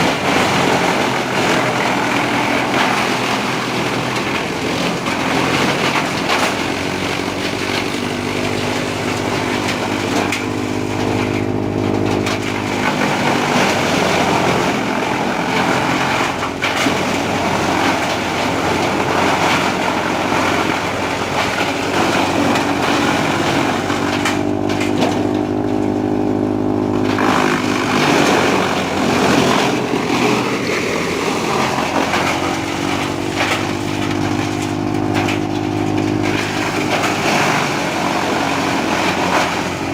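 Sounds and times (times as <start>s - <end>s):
tractor diesel engine: 0.0s - 39.9s
wood chipper clattering: 0.0s - 39.9s.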